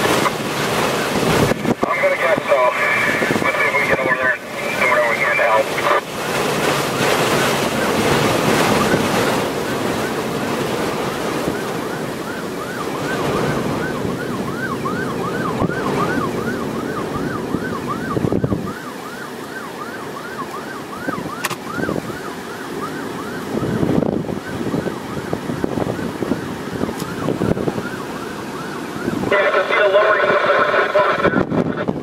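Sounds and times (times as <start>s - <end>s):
wind buffeting microphone: 0.0s - 4.9s, 5.8s - 19.2s, 20.6s - 29.4s, 30.5s - 32.0s
siren yelping: 0.0s - 32.0s.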